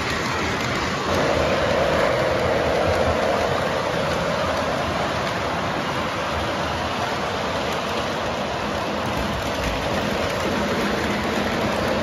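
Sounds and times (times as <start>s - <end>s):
model train wheels on rails: 0.0s - 12.0s.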